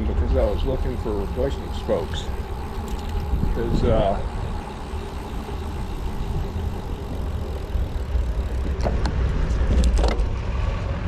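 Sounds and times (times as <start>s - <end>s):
bicycle road noise: 0.0s - 11.0s
wind buffeting microphone: 0.0s - 11.0s.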